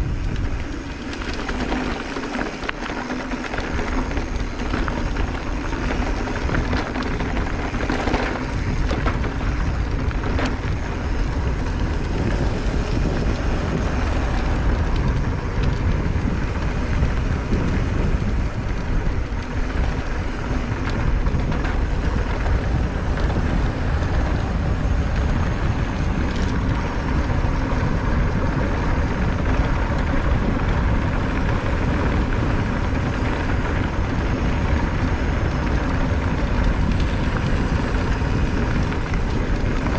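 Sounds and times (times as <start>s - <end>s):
bike clicks and knocks over bumps: 0.0s - 39.9s
bike tyres rolling over dirt: 0.0s - 39.9s
wind buffeting microphone: 0.0s - 39.9s.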